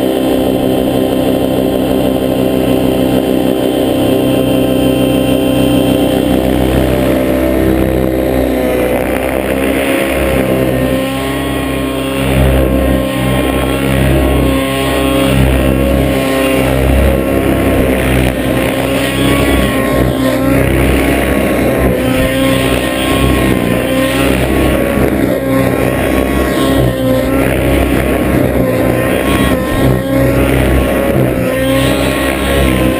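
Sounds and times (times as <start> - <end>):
model helicopter engine droning: 0.0 - 32.9.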